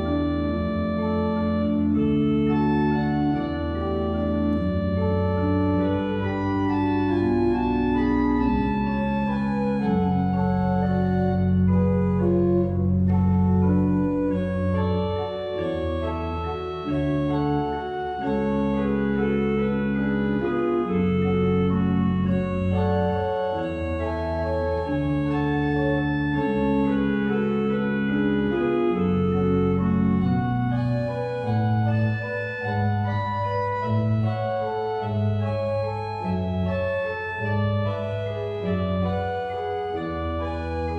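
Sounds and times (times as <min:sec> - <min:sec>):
organ pedal bass line: 0:00.0 - 0:40.9
pipe organ chords: 0:00.0 - 0:40.9.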